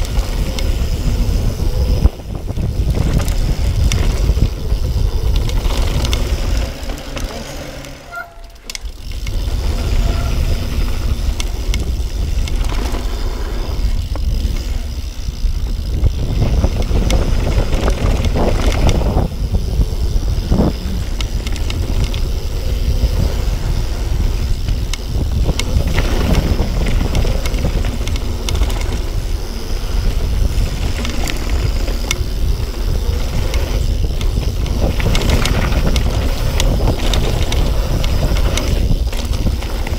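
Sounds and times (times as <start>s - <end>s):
bike chain and frame rattling: 0.0s - 39.9s
tyres on packed dirt: 0.0s - 39.9s
wind on microphone: 0.0s - 39.9s.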